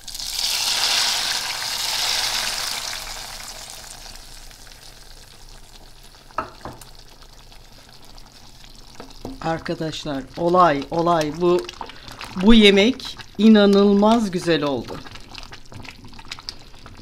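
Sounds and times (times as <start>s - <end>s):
butter sizzling in stew: 0.0s - 17.0s.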